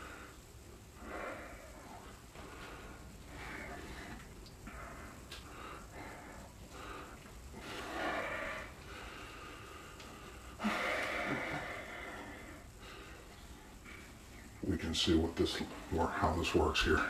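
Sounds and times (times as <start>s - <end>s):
man breathing heavily through nose: 0.0s - 16.3s.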